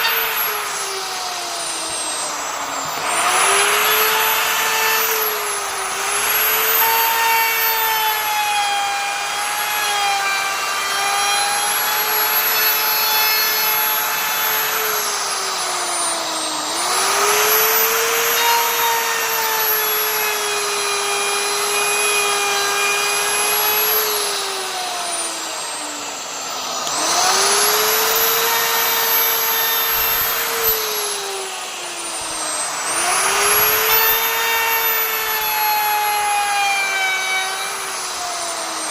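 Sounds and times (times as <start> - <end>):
hiss of wood cutting: 0.0 - 38.9
wood router whining: 0.0 - 38.9.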